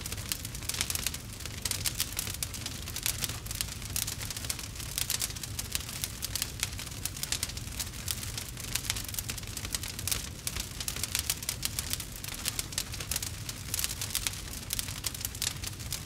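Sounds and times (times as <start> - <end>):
rain pattering on a tarp: 0.0 - 16.0.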